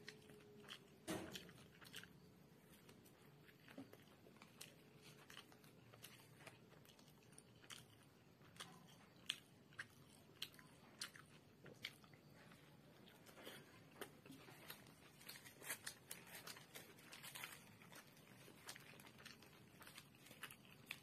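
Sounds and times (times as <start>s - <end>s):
crunchy chewing: 0.0s - 21.0s.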